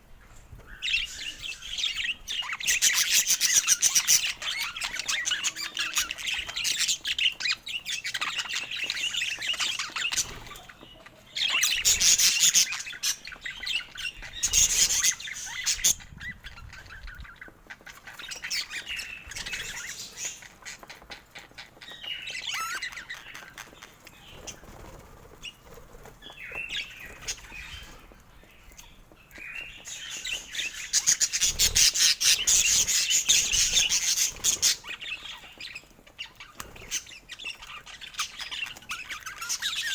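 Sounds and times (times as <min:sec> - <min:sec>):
budgerigars chattering and chirping: 0:00.6 - 0:39.9.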